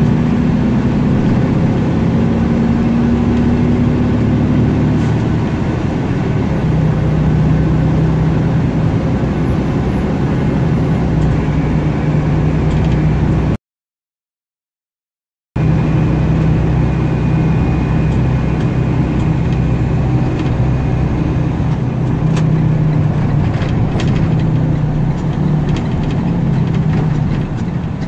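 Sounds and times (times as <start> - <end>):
vehicle engine and road noise: 0.0 - 13.6, 15.6 - 28.0.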